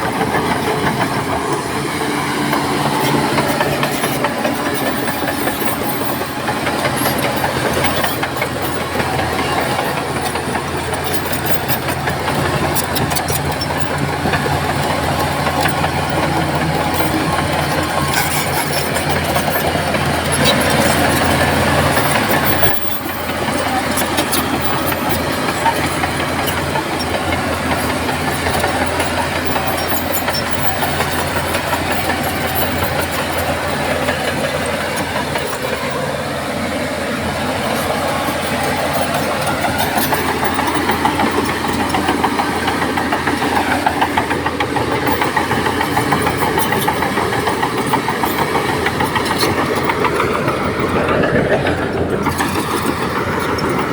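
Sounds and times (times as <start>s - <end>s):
diesel earthmoving machinery running: 0.0s - 53.9s
clicks and clanks: 2.4s - 36.4s, 37.2s - 53.9s.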